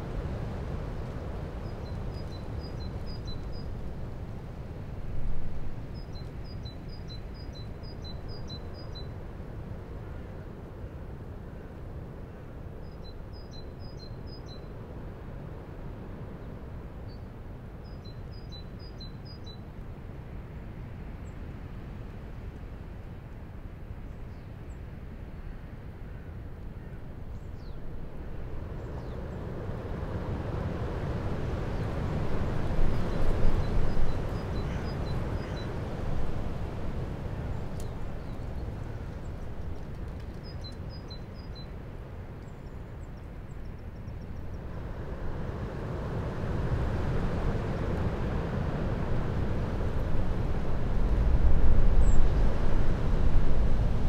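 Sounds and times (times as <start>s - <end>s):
strong wind through branches: 0.0s - 19.1s, 19.7s - 54.0s.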